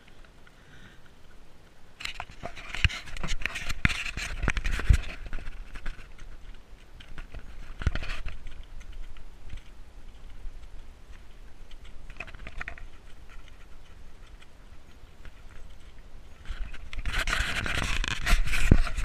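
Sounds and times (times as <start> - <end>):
horse tack rattling: 0.0 - 19.0.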